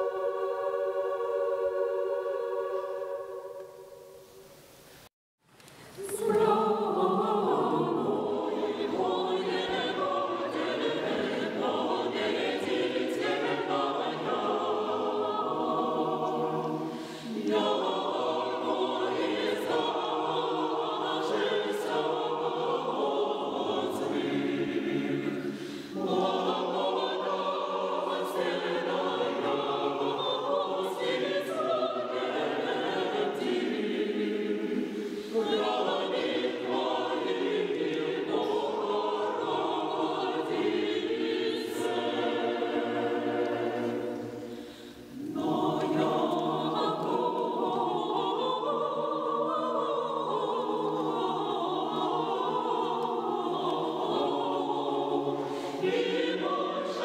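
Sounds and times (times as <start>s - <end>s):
mixed choir singing unaccompanied: 0.0s - 4.5s, 6.0s - 57.0s.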